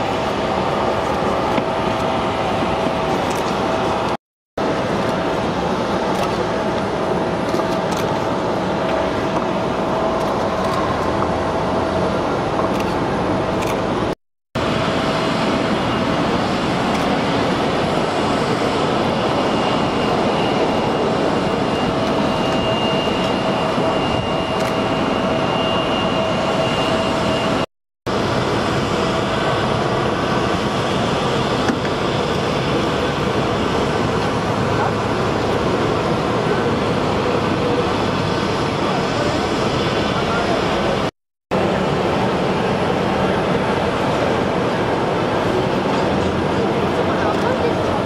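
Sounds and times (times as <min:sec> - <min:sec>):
jet rumble: 0:00.0 - 0:48.0.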